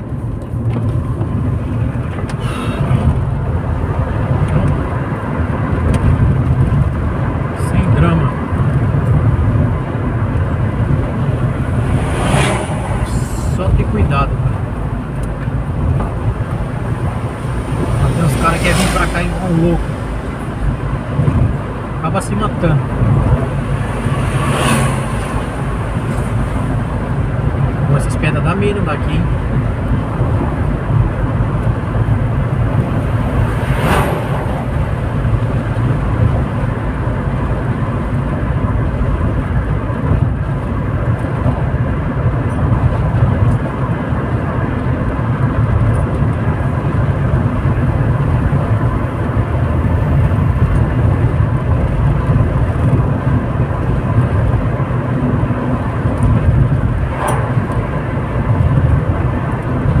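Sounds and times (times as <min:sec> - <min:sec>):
car engine and tyres rumbling: 0:00.0 - 1:00.0.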